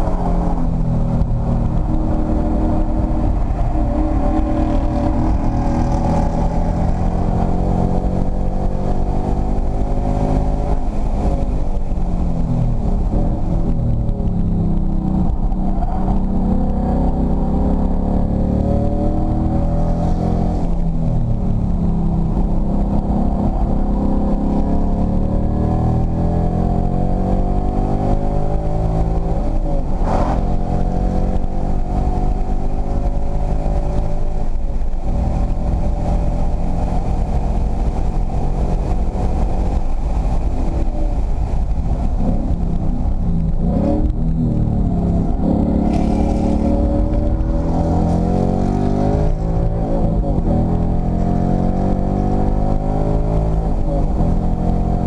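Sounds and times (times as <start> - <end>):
car engine revving under full throttle: 0.0 - 55.0.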